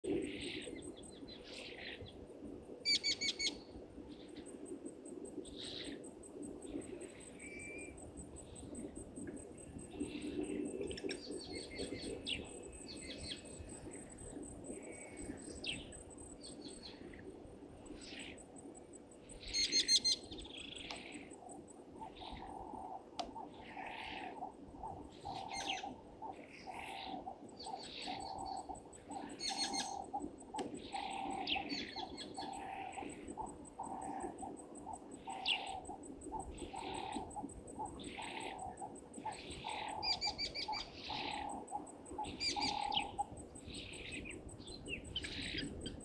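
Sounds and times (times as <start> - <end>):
birds calling and whistling: 2.8 - 3.6, 6.7 - 8.9, 9.8 - 17.1, 19.4 - 46.0
high insect trill: 2.8 - 46.0.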